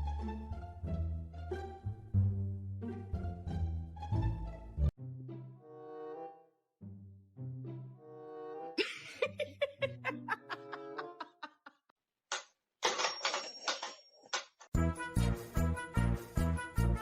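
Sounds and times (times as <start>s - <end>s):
background music: 0.0s - 11.4s, 14.8s - 17.0s.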